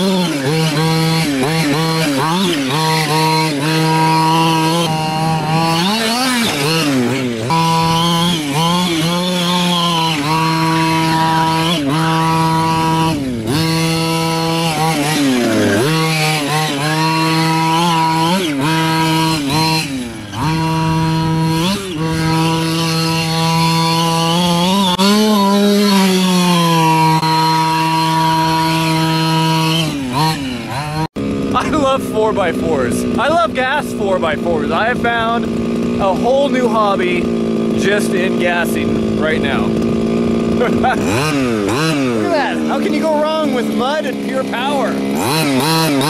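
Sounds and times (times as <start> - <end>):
two-stroke engine revving: 0.0 - 46.0.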